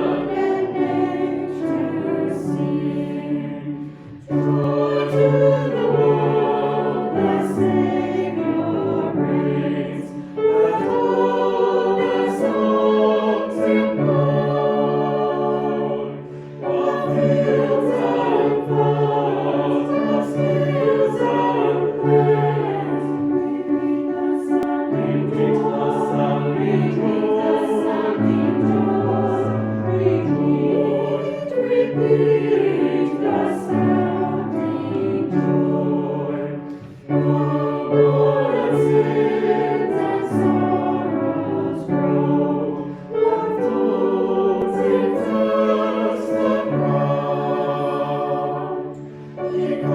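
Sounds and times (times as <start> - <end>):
choir singing a hymn: 0.0 - 49.9.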